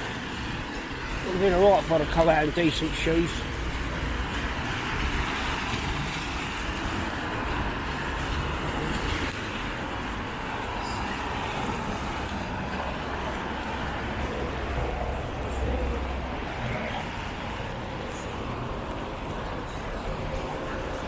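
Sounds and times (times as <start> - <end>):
tyres hissing on wet road: 0.0 - 21.0.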